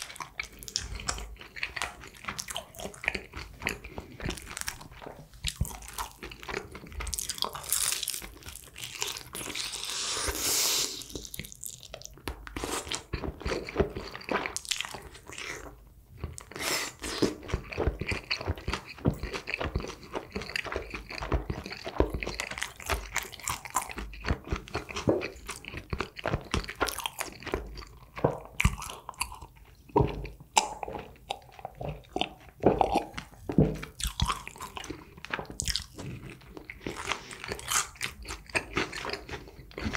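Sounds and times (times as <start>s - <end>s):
chewing: 0.0s - 39.9s
crunching fried chicken: 0.0s - 39.9s.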